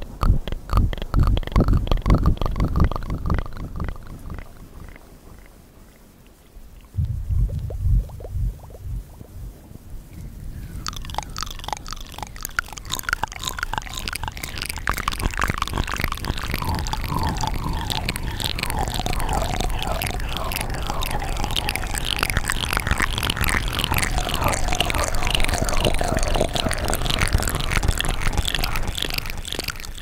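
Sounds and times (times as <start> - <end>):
wet mouth clicks and smacks: 0.0 - 6.1, 6.8 - 9.4, 10.5 - 30.0.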